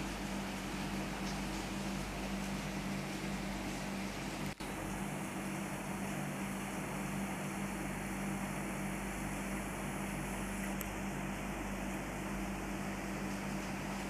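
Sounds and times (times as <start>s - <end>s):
rain falling on pool: 0.0s - 14.0s.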